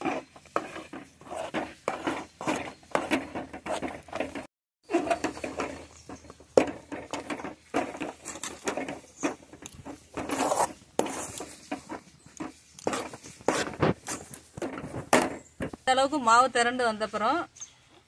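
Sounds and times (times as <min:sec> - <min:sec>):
metal spoon stirring dough in pot: 0:00.0 - 0:15.7.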